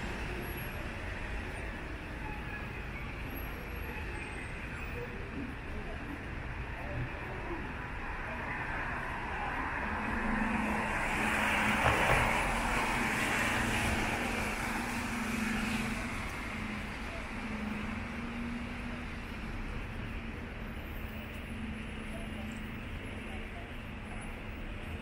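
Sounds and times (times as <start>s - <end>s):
traffic tyre noise on wet street: 0.0s - 25.0s.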